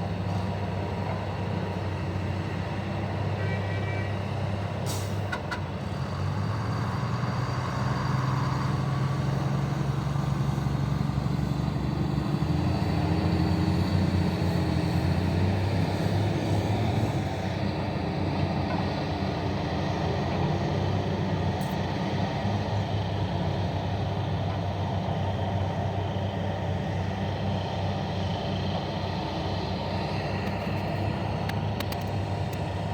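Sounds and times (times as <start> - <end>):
diesel machinery engine running: 0.0 - 32.9.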